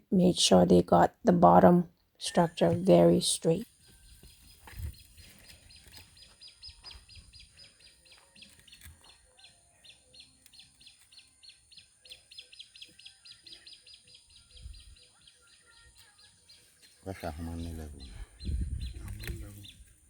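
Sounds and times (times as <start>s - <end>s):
outdoor background noise: 0.0s - 20.0s
bird chirping fast: 2.3s - 19.9s.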